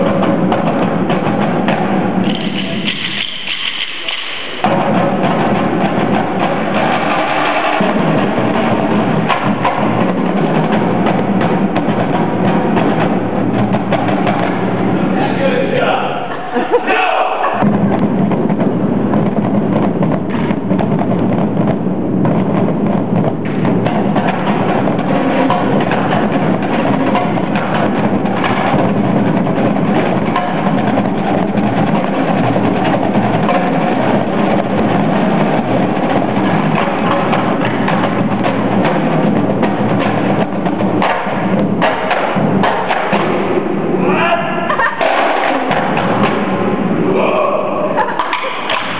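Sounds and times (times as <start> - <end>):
bass drums: 0.0 - 47.2
snare drums: 0.0 - 47.2, 48.0 - 48.9
tenor drums: 0.0 - 48.9.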